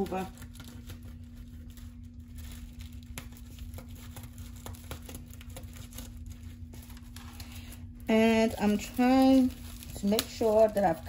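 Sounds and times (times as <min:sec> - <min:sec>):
plastic bag crinkling: 0:00.0 - 0:11.0
steady low hum: 0:00.0 - 0:11.0.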